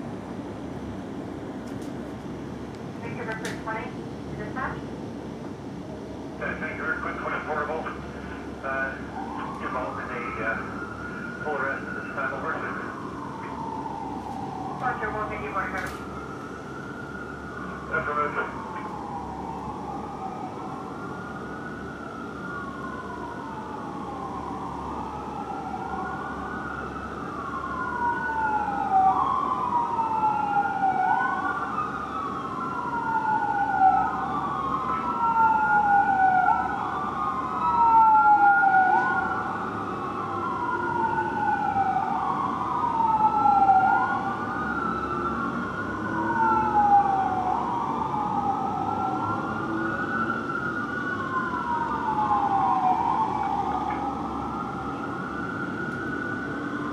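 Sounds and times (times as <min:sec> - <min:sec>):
fire engine wail siren: 0:00.0 - 0:56.9.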